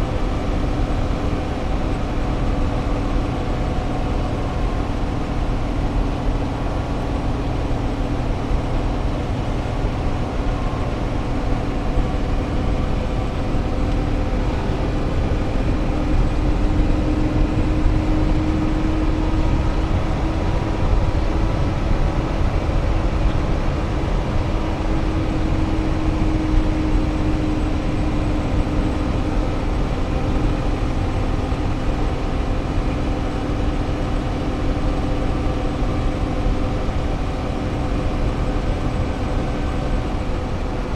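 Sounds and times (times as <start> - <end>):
road and wind noise: 0.0 - 40.9
vehicle engine hum: 0.0 - 40.9.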